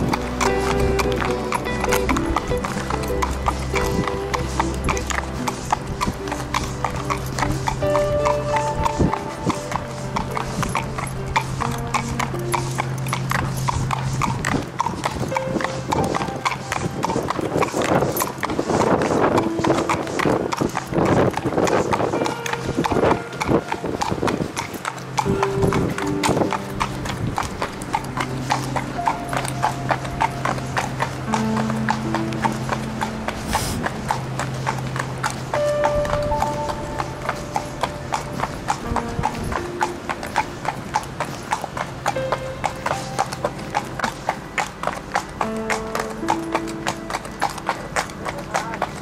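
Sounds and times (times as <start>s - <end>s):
horse hooves clip-clopping: 0.0s - 49.0s
music with long held notes: 0.0s - 49.0s.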